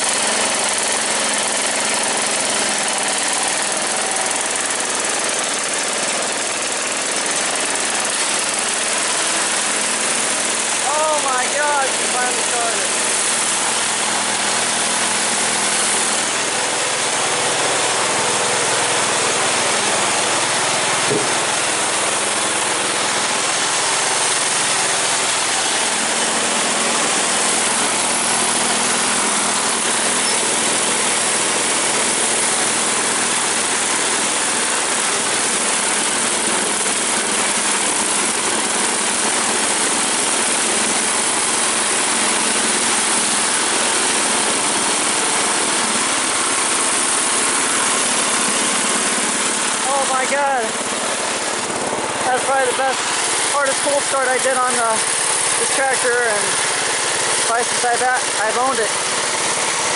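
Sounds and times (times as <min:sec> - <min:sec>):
garden tractor engine idling: 0:00.0 - 0:59.9.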